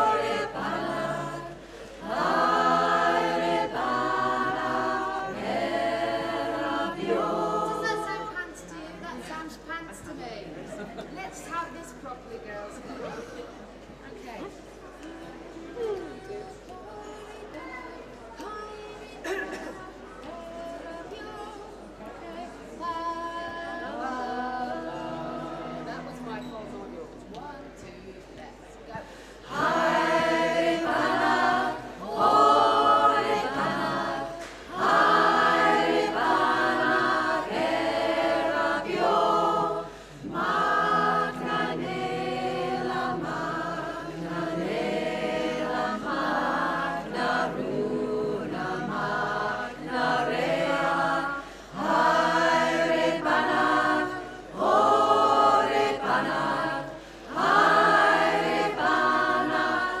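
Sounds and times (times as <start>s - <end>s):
women's choir singing a cappella: 0.0s - 60.0s.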